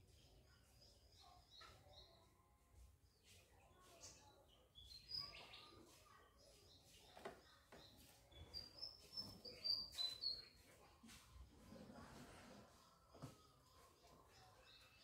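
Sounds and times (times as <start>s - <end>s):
small birds chirping: 0.0s - 11.9s, 12.6s - 15.0s.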